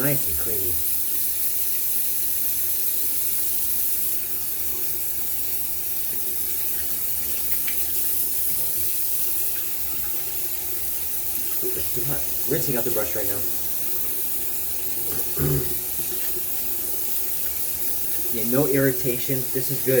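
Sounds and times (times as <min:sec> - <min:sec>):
brush rinsed under water: 0:00.0 - 0:20.0
faucet water running into sink: 0:00.0 - 0:20.0.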